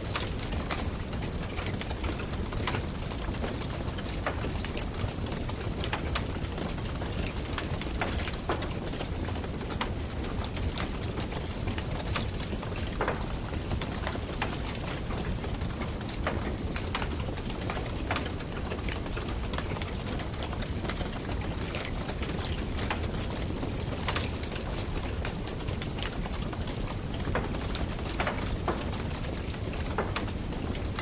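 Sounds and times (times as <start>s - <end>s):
campfire crackling and popping: 0.2s - 31.0s.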